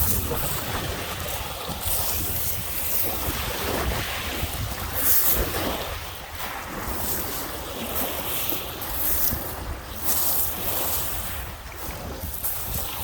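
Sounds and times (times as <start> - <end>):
waves breaking on beach: 0.0 - 13.0
wind rumbling on microphone: 0.0 - 13.0.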